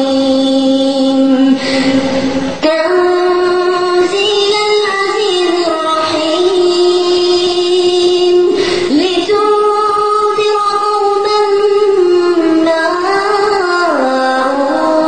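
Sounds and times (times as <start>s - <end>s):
young voice chanting recitation: 0.0s - 15.0s.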